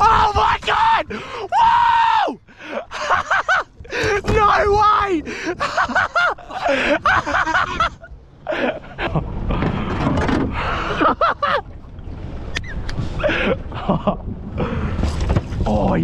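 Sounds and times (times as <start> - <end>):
wind and sea rumble: 0.0 - 16.0.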